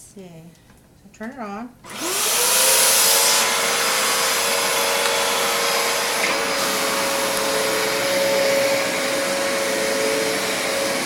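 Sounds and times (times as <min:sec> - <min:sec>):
vacuum cleaner running: 0:01.9 - 0:11.0.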